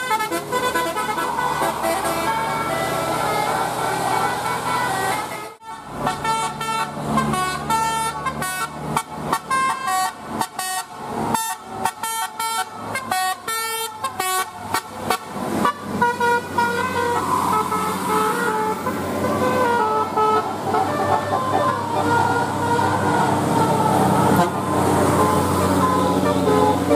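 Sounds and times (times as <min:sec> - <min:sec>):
multi-tone bus air horn tune: 0:00.0 - 0:26.9.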